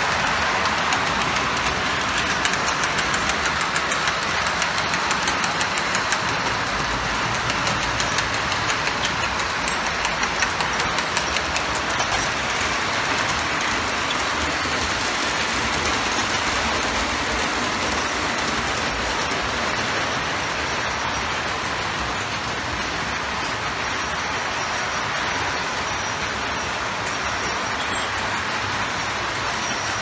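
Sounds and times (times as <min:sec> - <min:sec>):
model train wheels on rail: 0:00.0 - 0:30.0.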